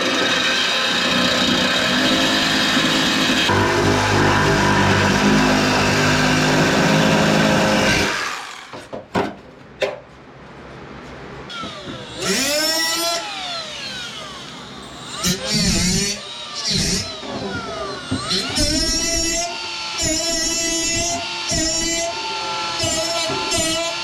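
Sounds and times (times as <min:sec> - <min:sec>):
power tool on sheet metal: 0:00.0 - 0:08.9, 0:11.5 - 0:24.0.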